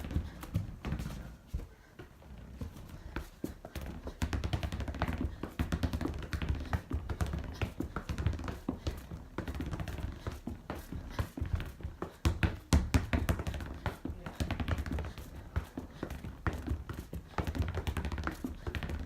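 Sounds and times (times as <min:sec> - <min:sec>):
feet tapping on hard floor: 0:00.0 - 0:19.0.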